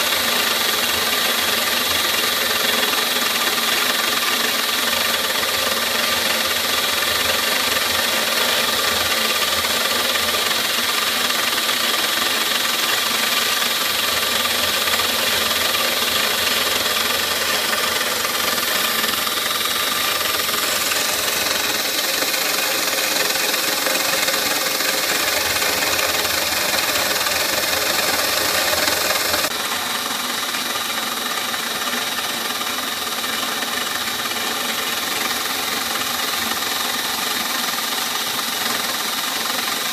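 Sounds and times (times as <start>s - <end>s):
hiss of cutting plastic: 0.0s - 39.9s
milling machine motor whine: 0.0s - 39.9s.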